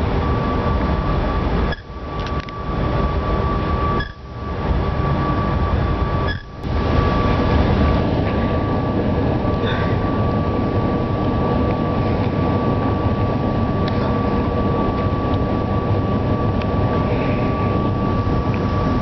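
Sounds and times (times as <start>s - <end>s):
ferry rumble and rushing: 0.0s - 19.0s
thin machinery whine: 0.0s - 19.0s.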